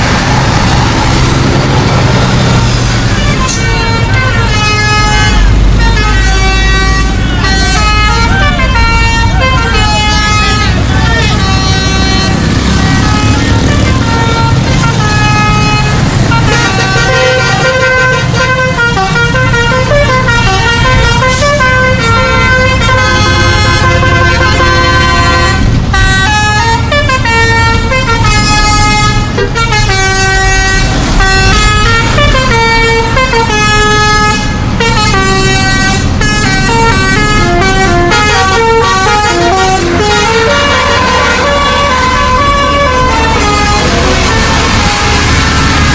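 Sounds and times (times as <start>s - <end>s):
bus engine running: 0.0s - 45.9s
bus musical horn tune: 0.0s - 45.9s.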